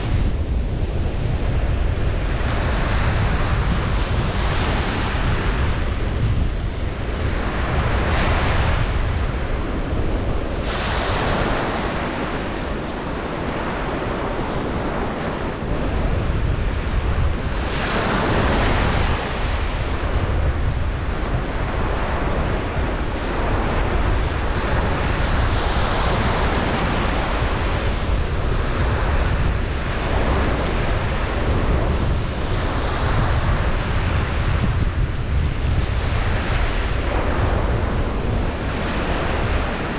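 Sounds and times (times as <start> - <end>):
ocean waves breaking on beach: 0.0 - 39.9
wind buffeting microphone: 0.0 - 39.9.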